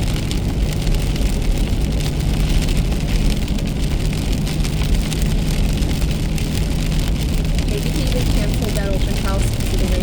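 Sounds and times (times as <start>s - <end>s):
car engine running: 0.0s - 10.0s
rain hissing: 0.0s - 10.0s
raindrops ticking on car: 0.0s - 10.0s.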